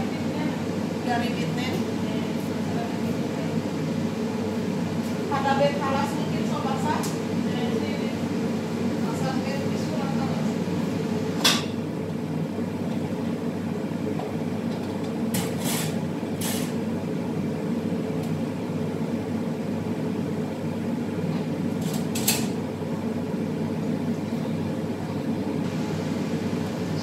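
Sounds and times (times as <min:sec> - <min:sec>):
stove burners droning: 0:00.0 - 0:27.0.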